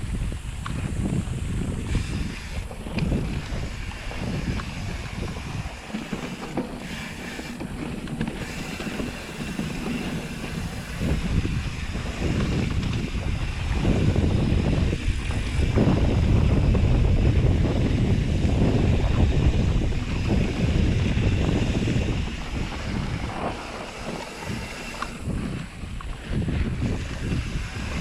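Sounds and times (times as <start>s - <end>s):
bike rolling on dirt trail: 0.0s - 28.0s
wind buffeting microphone: 0.0s - 28.0s.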